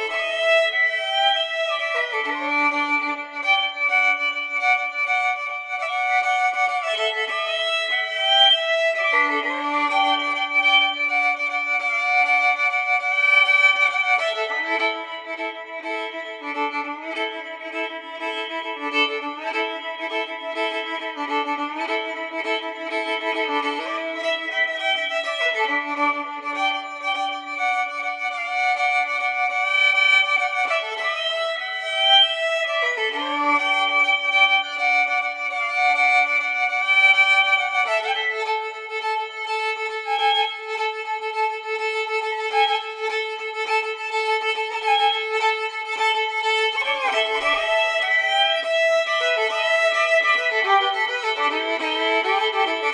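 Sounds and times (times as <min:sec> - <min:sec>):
violin bowed notes: 0:00.0 - 0:52.9.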